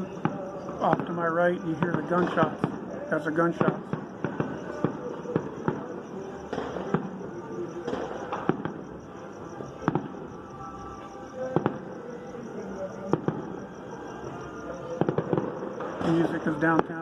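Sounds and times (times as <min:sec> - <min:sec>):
faint music: 0:00.0 - 0:17.0.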